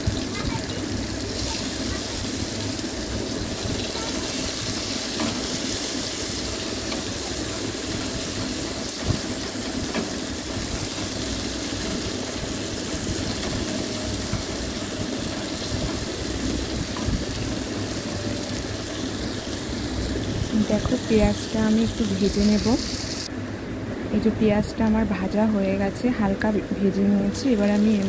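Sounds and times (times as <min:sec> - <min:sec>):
onions sizzling in oil: 0:00.0 - 0:23.3, 0:27.0 - 0:28.0.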